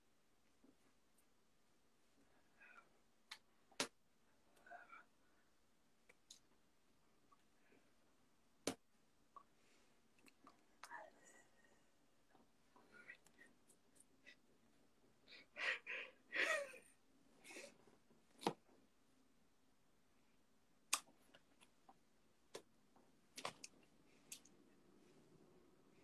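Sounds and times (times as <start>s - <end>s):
faint room hum: 0.0s - 26.0s.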